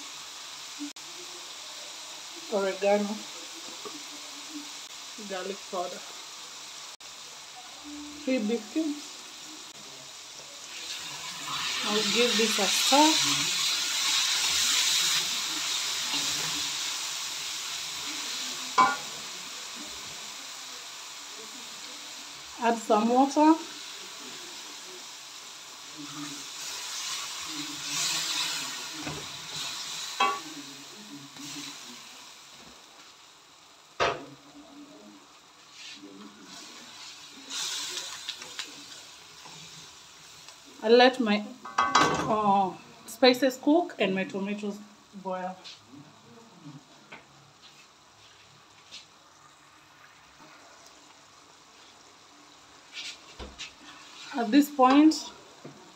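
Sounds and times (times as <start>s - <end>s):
vegetables sizzling in a pan: 0.0s - 55.9s.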